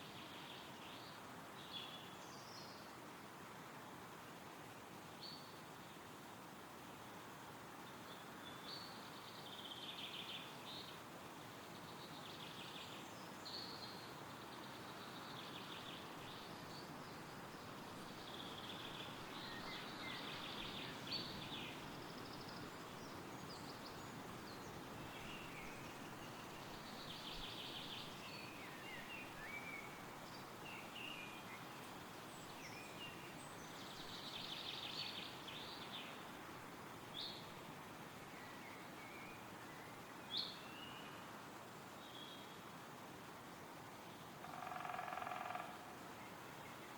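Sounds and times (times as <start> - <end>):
wind rustling through trees: 0.0 - 46.9.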